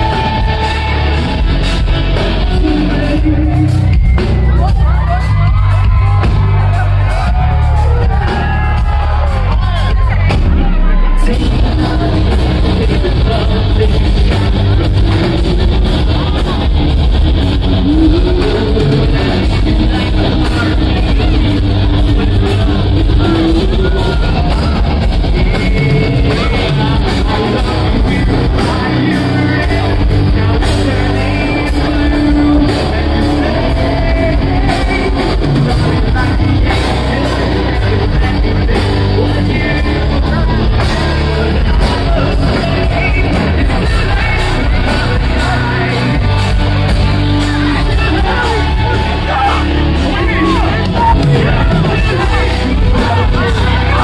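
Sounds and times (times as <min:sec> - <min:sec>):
bass guitar: 0:00.0 - 0:54.0
drums: 0:00.0 - 0:54.0
electric guitars: 0:00.0 - 0:54.0
person singing: 0:00.0 - 0:54.0.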